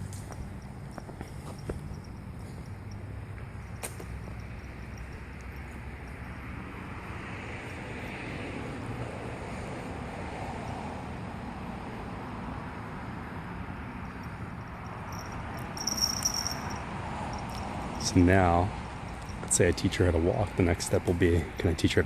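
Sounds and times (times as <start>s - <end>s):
outdoor background rumble: 0.0s - 22.0s.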